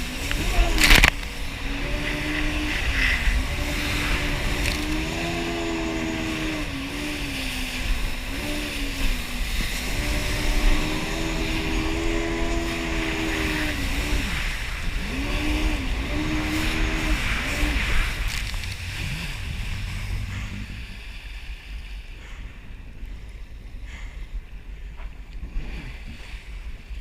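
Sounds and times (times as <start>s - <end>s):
jet ski engine running: 0.0s - 27.0s.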